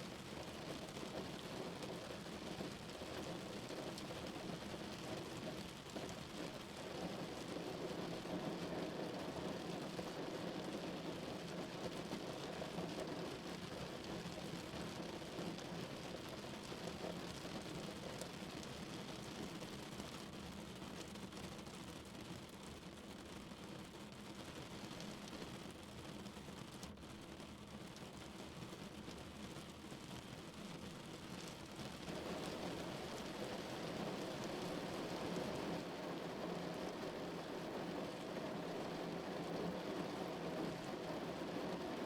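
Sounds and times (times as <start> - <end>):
rain on car roof and windows: 0.0 - 42.0.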